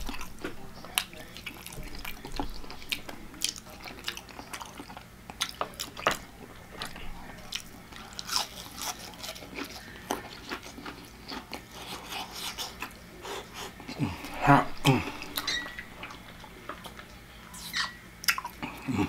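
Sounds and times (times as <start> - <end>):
person chewing wetly: 0.0 - 19.0.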